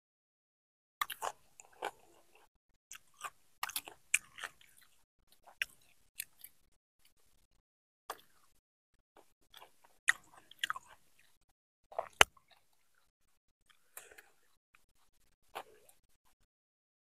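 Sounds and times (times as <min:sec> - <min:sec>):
person chewing and crunching food: 0:01.0 - 0:08.6, 0:09.2 - 0:16.4.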